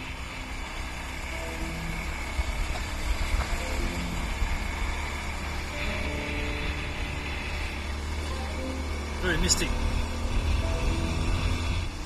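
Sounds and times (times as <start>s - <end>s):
motorbike engine rumble: 0.0s - 12.0s.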